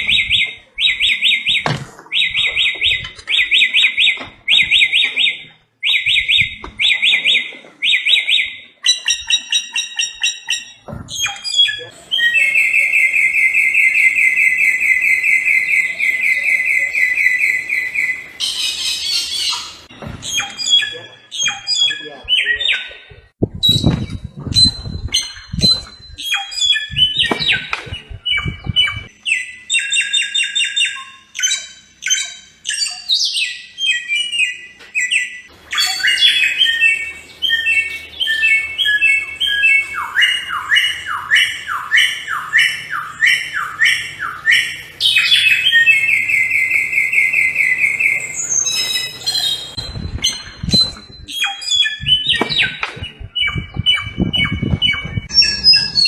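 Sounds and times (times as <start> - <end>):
bird singing with trills: 0.0 - 56.0.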